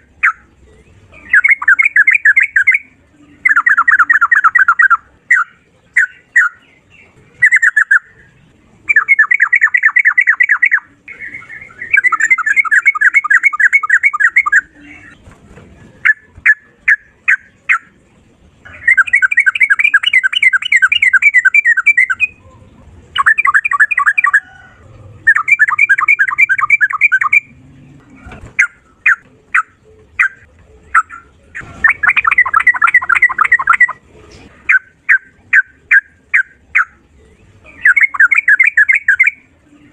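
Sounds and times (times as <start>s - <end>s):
bird singing trilled notes: 0.0s - 15.3s, 16.0s - 34.0s, 34.7s - 39.9s
bird chirps: 0.0s - 15.4s, 18.6s - 27.5s, 28.2s - 34.0s, 34.7s - 39.9s.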